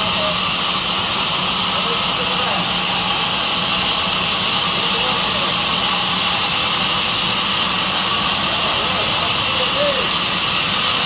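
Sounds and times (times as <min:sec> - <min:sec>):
sawmill saw running: 0:00.0 - 0:11.0.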